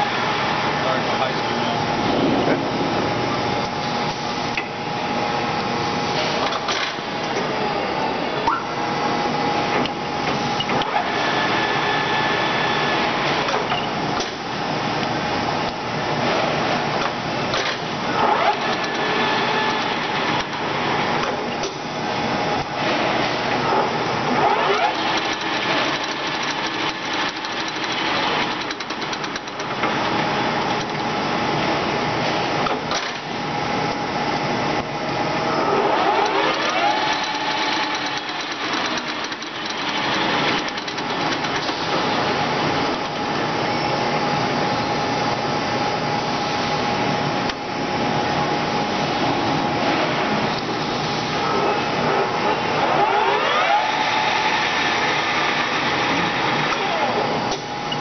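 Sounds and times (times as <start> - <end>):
lathe whining: 0.0 - 32.2, 35.1 - 44.4, 48.9 - 58.0.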